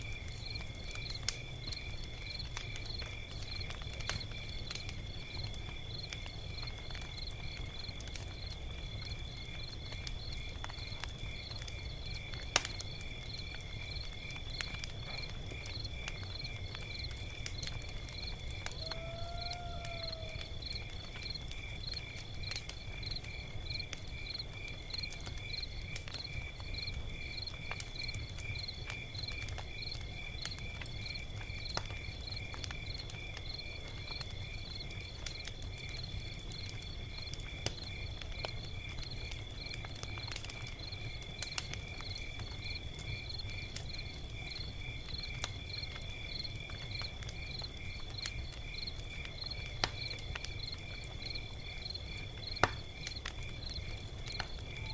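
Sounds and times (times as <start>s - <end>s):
crickets chirping: 0.0s - 54.9s
log fire crackling: 0.0s - 54.9s.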